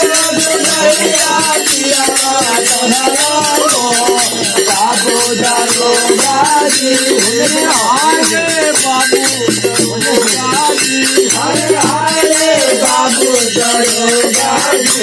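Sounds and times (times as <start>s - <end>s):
drum: 0.0s - 15.0s
hand cymbals: 0.0s - 15.0s.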